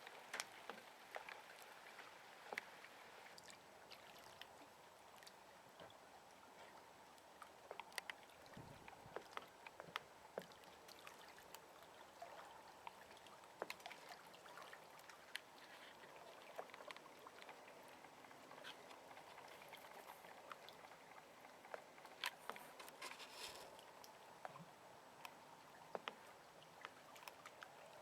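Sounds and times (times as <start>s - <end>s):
small splashes and ticks: 0.0s - 28.0s
water lapping and trickling: 0.0s - 28.0s.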